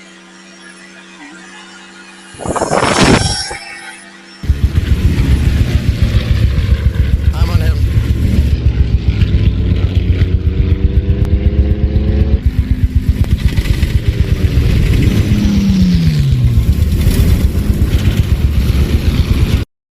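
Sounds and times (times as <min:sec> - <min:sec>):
motors pulsing drone: 0:00.0 - 0:19.7.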